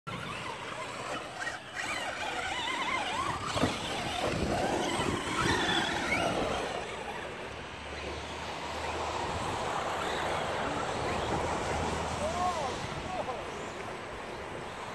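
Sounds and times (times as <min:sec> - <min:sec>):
toy car motors whining: 0:00.1 - 0:14.9
tyres on loose dirt: 0:00.1 - 0:14.9.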